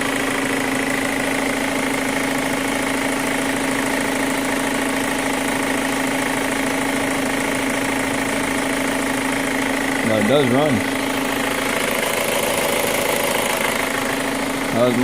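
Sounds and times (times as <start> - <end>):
car engine idling with ticking: 0.0 - 15.0.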